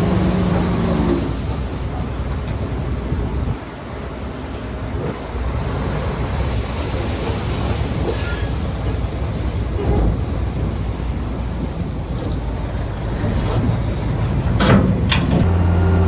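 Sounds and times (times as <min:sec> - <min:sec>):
bulldozer engine rumble: 0:00.0 - 0:16.0.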